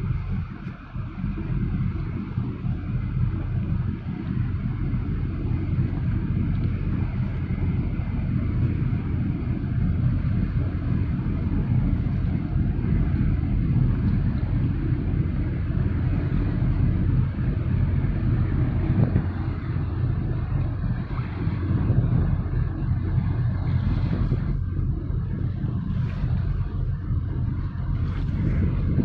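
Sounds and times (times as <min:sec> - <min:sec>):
boat engine rumble: 0:00.0 - 0:29.0.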